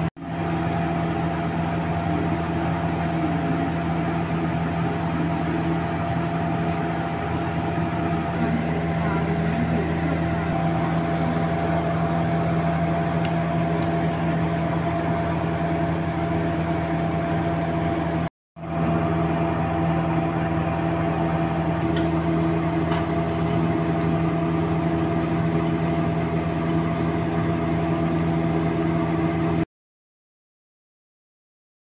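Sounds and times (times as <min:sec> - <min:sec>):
motor humming: 0:01.8 - 0:29.6.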